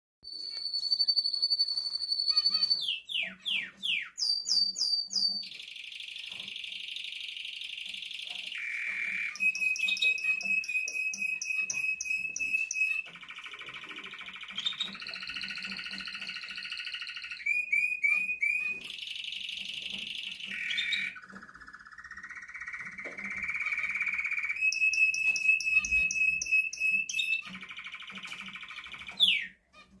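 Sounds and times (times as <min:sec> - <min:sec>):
canary singing trills: 0:00.3 - 0:30.0.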